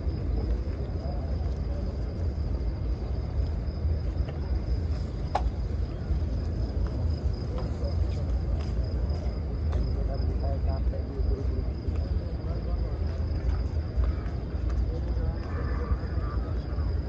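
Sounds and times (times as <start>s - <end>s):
crowd murmur: 0.0s - 17.0s.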